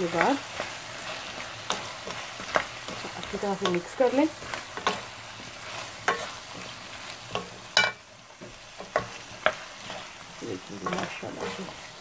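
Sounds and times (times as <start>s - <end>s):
low frying sizzle: 0.0s - 12.0s
spatula scraping a pan: 0.0s - 12.0s.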